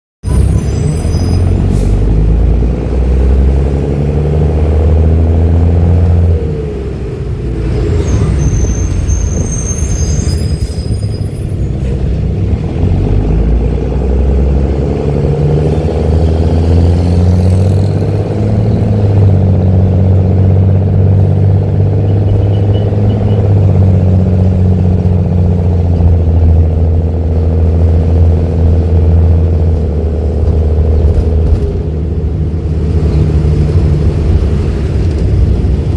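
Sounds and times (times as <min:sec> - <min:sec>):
bus diesel engine droning: 0:00.2 - 0:35.9.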